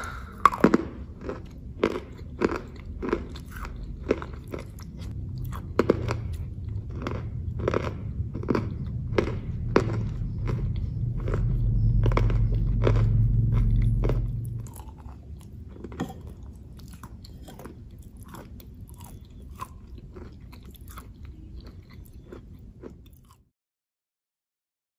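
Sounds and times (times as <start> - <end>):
low rumble: 0.0 - 21.6
crunchy chewing: 0.0 - 23.5.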